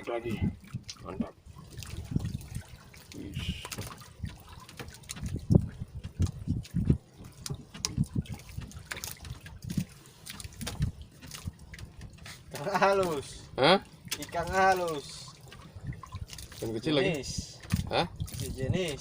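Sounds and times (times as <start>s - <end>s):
water sloshing and dripping: 0.0s - 19.0s.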